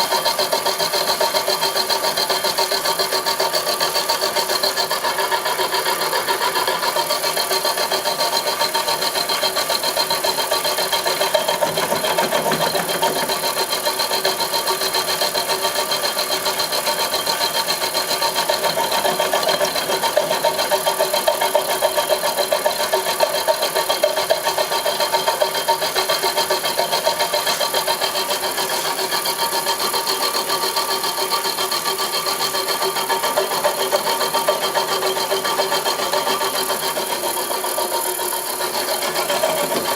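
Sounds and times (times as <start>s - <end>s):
milling machine whirring: 0.1s - 39.9s.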